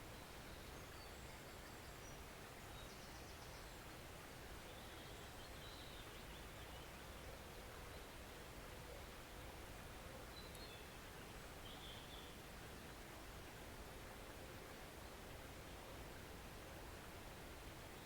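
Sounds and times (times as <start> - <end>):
faint rush of stream: 0.0 - 18.0.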